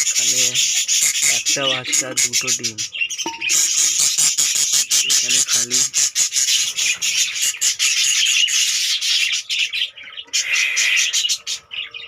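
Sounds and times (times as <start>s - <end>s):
budgerigars chattering and squawking: 0.0s - 12.0s.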